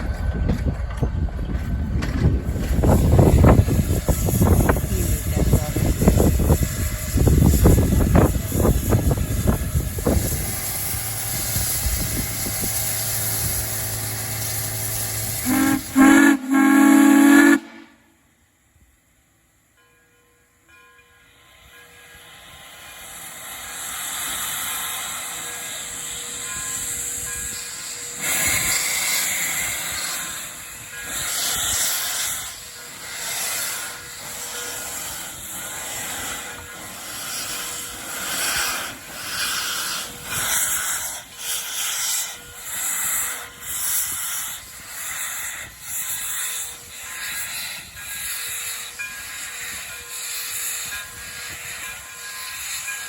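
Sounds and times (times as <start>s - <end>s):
steam locomotive chuffing: 0.0s - 18.2s, 21.3s - 53.0s
steam locomotive hissing: 1.7s - 19.8s, 20.9s - 53.0s.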